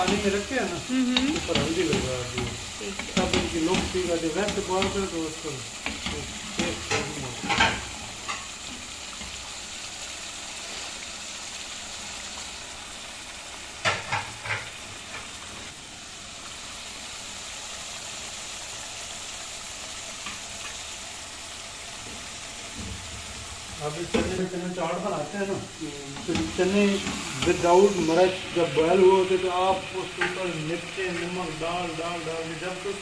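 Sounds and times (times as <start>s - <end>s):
curry sizzling in a pot: 0.0s - 33.0s.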